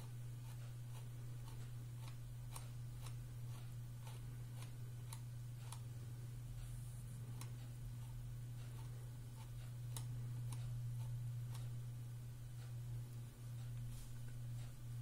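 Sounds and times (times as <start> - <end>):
light ticking: 0.0 - 15.0
low hum: 0.0 - 15.0.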